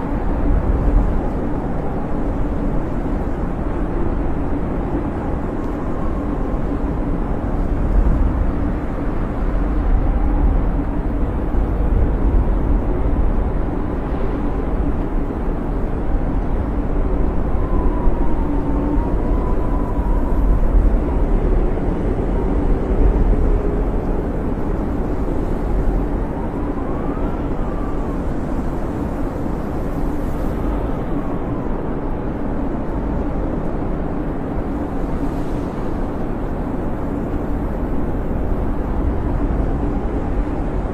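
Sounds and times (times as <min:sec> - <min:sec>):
gusting wind howling: 0:00.0 - 0:40.9.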